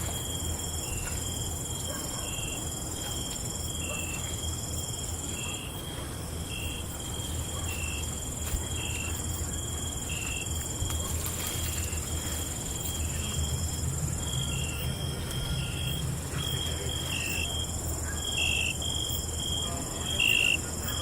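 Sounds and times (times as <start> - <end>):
short cricket chirps: 0.0 - 5.9, 6.5 - 21.0
low steady rumble: 0.0 - 18.2
crickets trilling: 0.0 - 21.0.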